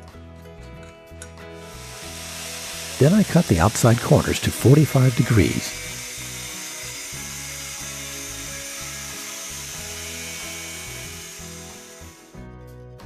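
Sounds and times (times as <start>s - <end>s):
angle grinder cutting steel: 1.6s - 12.4s.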